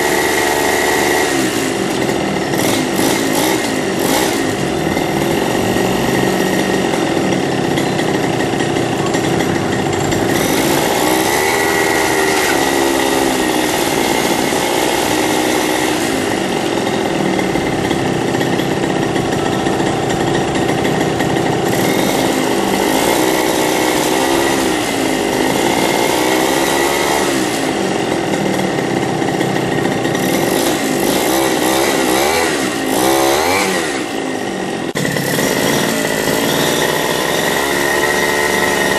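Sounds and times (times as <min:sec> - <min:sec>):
small bike engine buzzing: 0:00.0 - 0:38.9.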